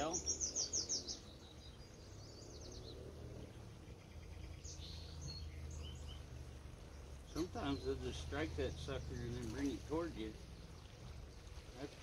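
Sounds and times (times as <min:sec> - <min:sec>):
small birds chirping: 0:00.0 - 0:12.0
low background rumble: 0:00.2 - 0:12.0.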